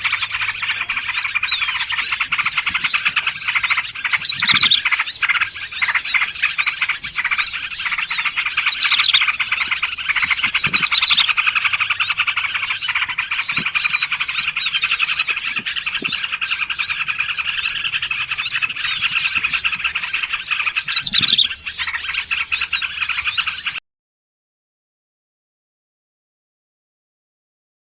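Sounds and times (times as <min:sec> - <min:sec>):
songbirds chirping and trilling: 0:00.0 - 0:23.8.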